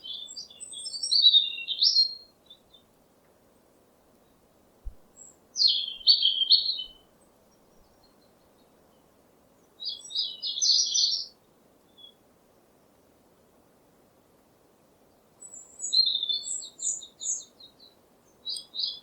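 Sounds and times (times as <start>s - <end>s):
songbird chirping: 0.0s - 12.2s, 15.1s - 19.0s
faint background hiss: 0.0s - 19.0s.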